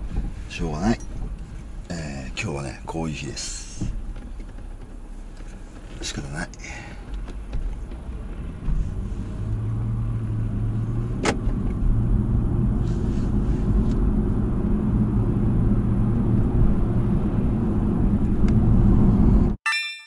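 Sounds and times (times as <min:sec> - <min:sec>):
car road and engine rumble: 0:00.0 - 0:19.6.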